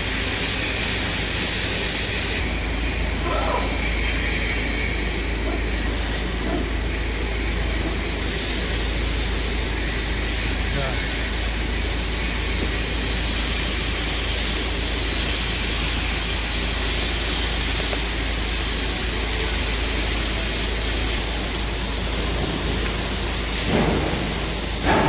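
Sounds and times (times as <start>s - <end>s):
continuous machine hiss: 0.0s - 25.0s.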